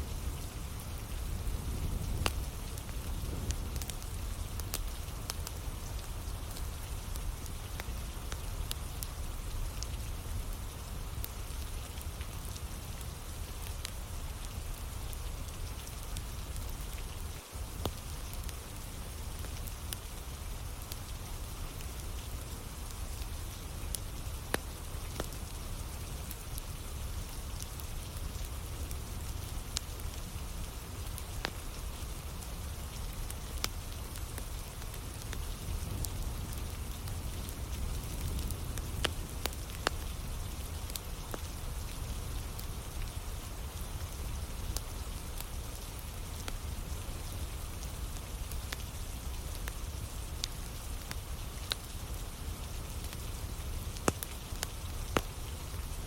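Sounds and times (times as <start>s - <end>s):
steady rain falling: 0.0s - 56.0s
wood fire crackles and pops: 0.0s - 56.0s.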